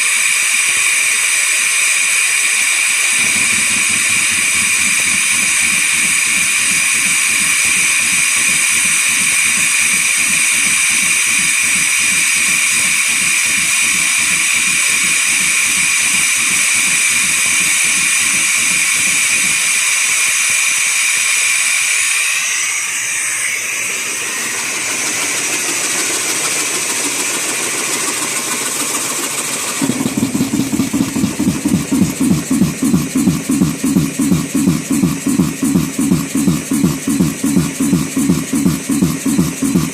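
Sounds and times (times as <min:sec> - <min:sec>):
air compressor chugging: 0:00.0 - 0:39.9.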